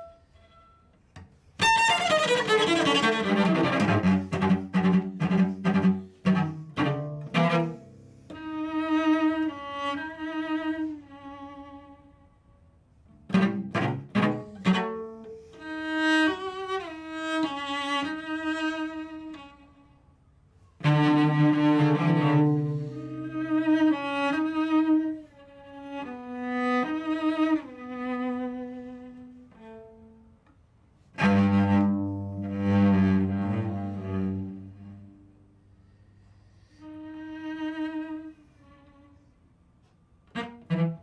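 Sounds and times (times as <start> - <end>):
solo cello playing: 1.5 - 41.0.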